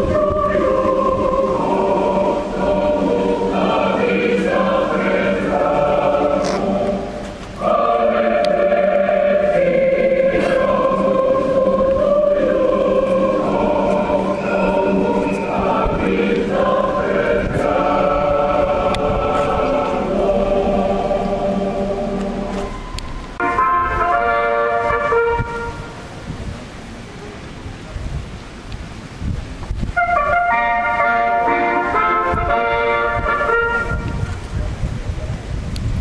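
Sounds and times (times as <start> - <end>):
choir singing slow song: 0.0 - 26.1, 30.3 - 34.4.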